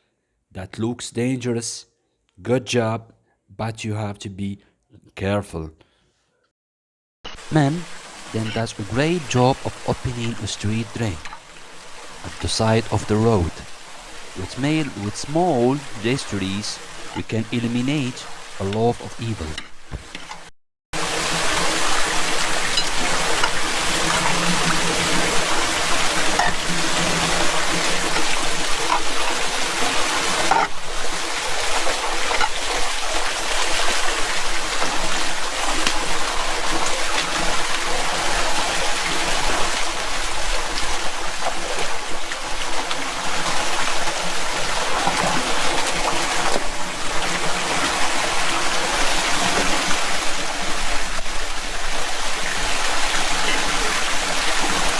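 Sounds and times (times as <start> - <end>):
water pouring into storm drain: 7.4 - 19.4, 21.0 - 54.9.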